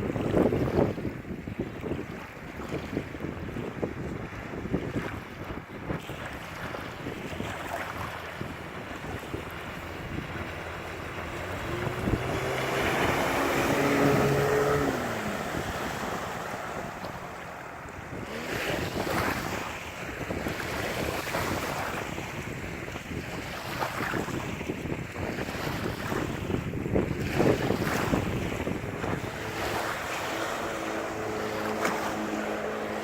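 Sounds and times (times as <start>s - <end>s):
outboard motor passing: 0.0s - 33.0s
waves splashing: 0.0s - 33.0s
wind on microphone: 0.0s - 33.0s.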